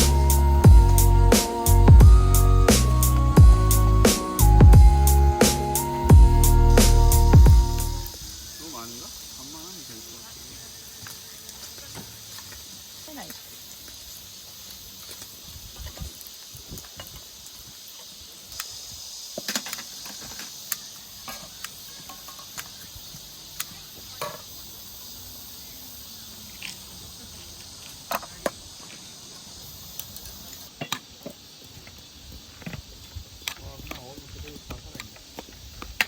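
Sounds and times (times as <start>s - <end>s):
high insect chorus: 0.0s - 36.0s.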